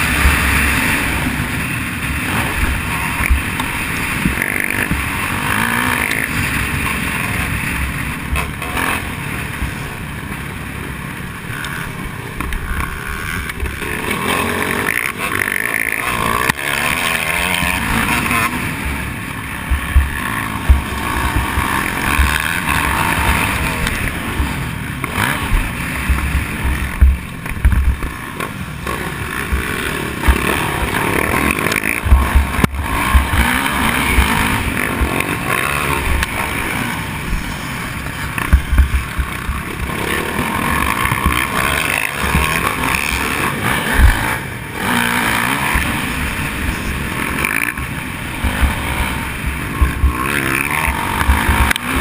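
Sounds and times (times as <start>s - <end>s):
dirt bike engine: 0.0s - 52.0s.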